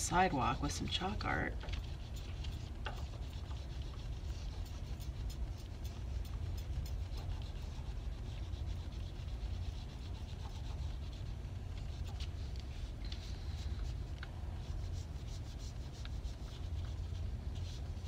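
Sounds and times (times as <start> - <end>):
brush bristles scratching paper: 0.0 - 18.0
steady low hum: 0.0 - 18.0.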